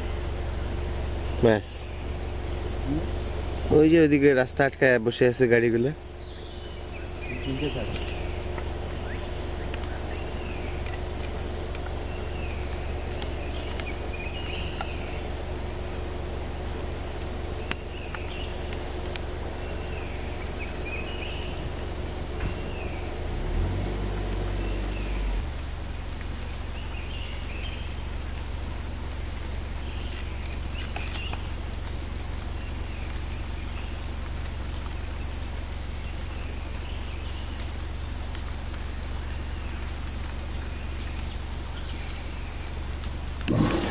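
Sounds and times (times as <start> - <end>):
birds calling: 0.0 - 25.6, 26.2 - 43.9
high insect drone: 0.0 - 43.9
low steady rumble: 0.0 - 43.9.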